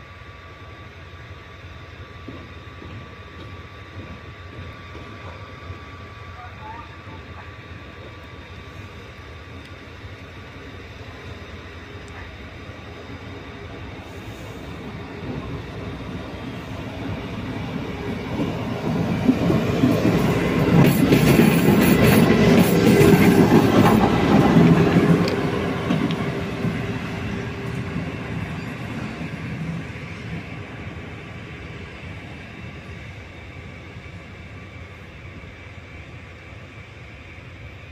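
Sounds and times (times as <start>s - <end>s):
train passing: 0.0s - 37.9s.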